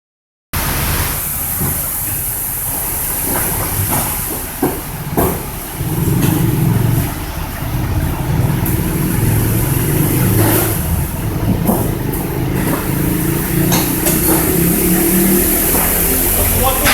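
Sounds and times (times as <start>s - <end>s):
car low mechanical hum: 0.6s - 16.9s.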